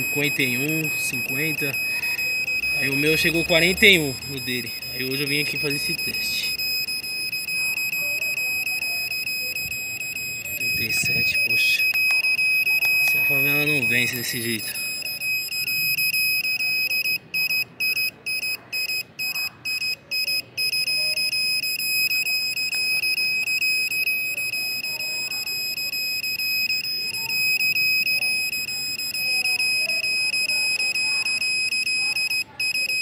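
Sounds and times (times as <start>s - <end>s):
satellite finder beeping tone: 0.0s - 33.0s.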